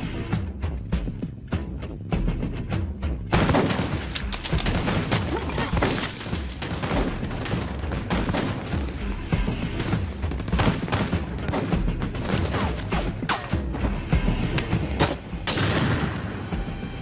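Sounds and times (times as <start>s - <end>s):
film score music: 0.0s - 17.0s.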